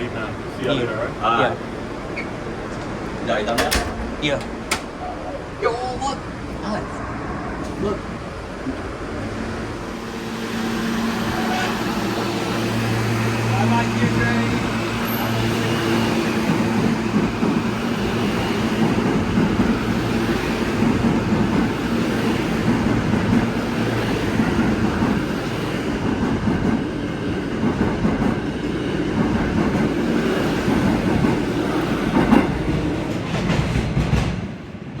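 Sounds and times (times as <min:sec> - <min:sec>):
subway train wheels on rail: 0:00.0 - 0:35.0.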